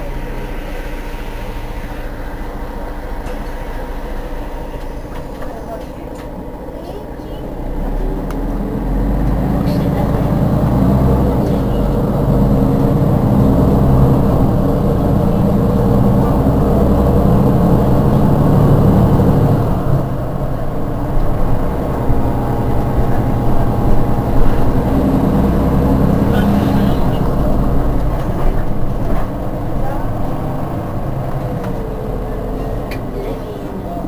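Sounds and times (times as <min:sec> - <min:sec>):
bus diesel engine idling: 0:00.0 - 0:34.0.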